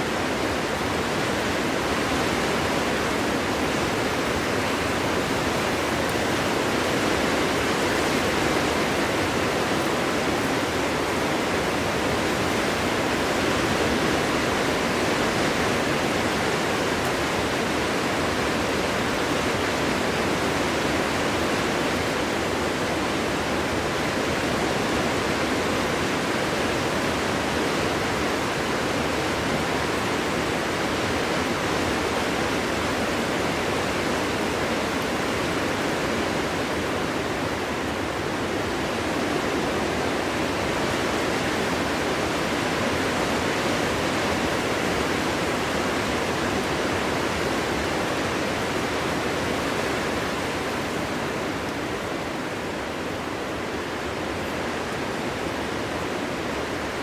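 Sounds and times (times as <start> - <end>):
wind blowing through forest: 0.0 - 57.0.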